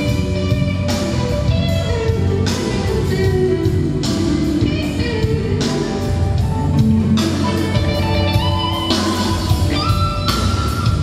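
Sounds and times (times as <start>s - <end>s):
loud band music through pa: 0.0s - 11.0s.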